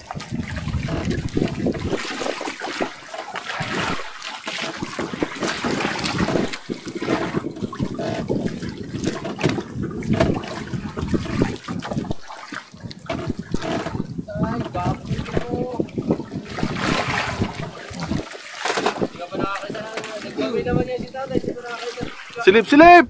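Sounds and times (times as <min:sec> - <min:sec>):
water slapping against boat hull: 0:00.0 - 0:23.0.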